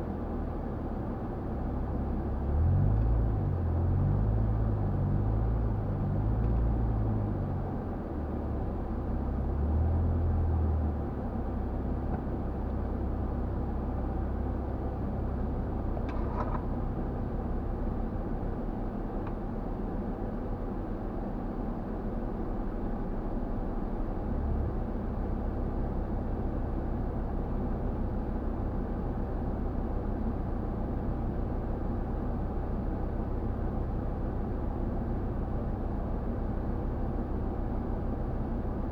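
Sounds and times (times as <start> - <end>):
off-road vehicle engine drone: 0.0 - 38.9.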